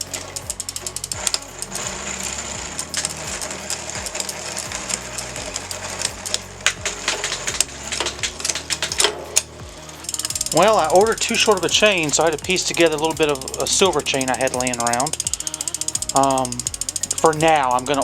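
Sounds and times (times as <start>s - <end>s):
bicycle chain rattling: 0.0s - 18.0s.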